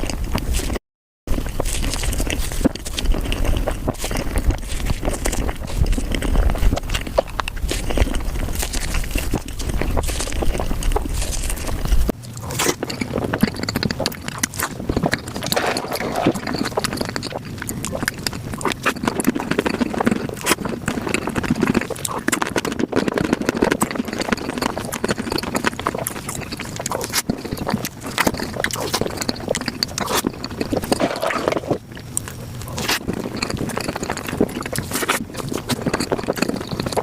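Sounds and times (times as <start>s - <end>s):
chewing and biting: 0.0s - 37.0s.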